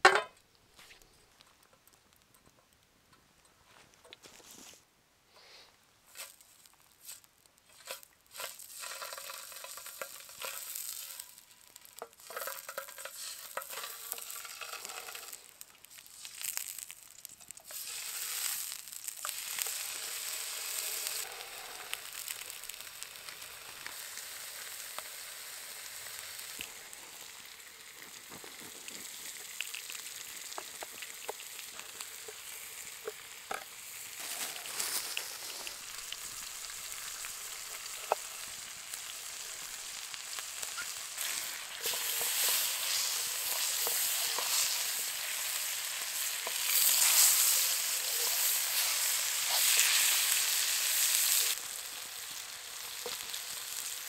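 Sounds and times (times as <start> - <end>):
sausages and bacon sizzling in oil: 4.6 - 54.0.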